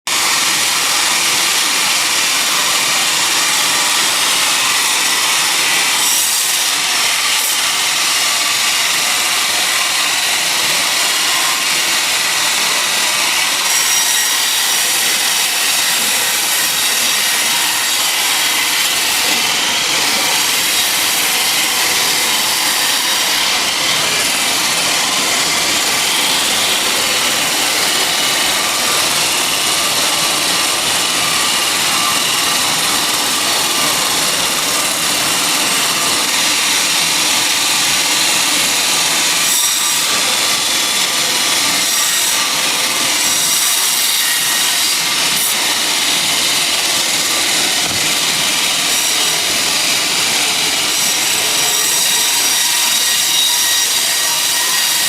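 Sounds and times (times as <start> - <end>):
saw cutting through log: 0.0 - 55.0.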